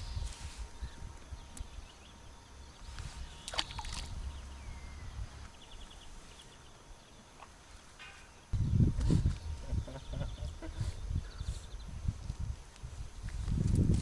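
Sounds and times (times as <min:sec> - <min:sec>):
low wind rumble: 0:00.0 - 0:07.2, 0:08.4 - 0:14.0.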